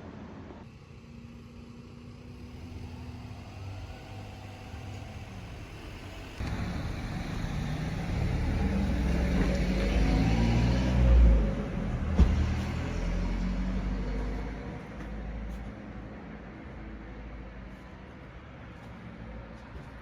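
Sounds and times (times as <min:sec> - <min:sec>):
vehicle running rumble: 0:01.0 - 0:20.0.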